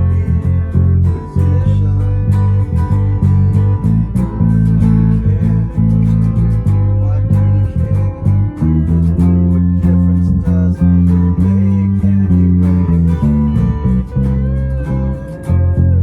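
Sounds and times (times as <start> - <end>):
bass guitar: 0.0 - 16.0.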